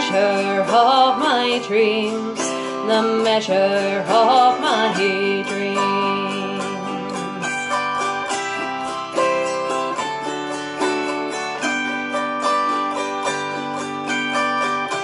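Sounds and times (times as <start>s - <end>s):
autoharp strummed: 0.0s - 15.0s.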